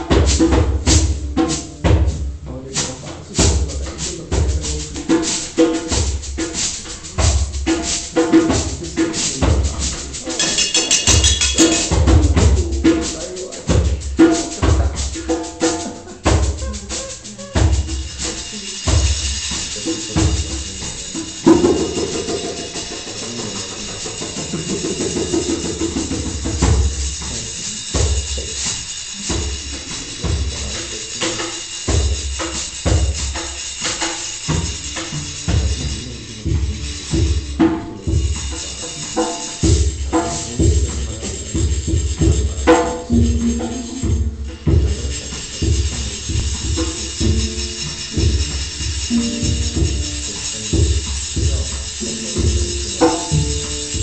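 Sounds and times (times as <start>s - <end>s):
djembe beat: 0.0s - 54.0s
hang drum ringing notes: 3.2s - 54.0s.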